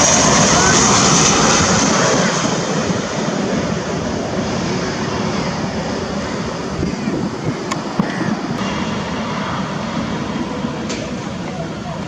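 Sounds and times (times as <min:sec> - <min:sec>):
jet airliner engine roar: 0:00.0 - 0:12.0.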